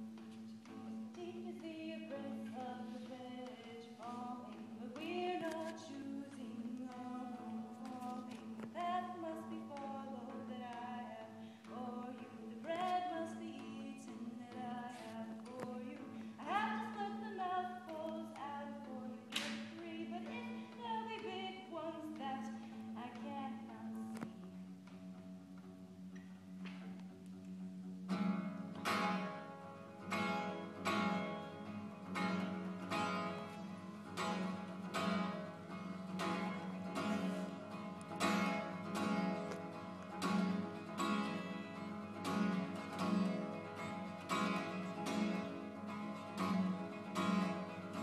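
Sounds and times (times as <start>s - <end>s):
acoustic guitar: 0.0s - 48.0s.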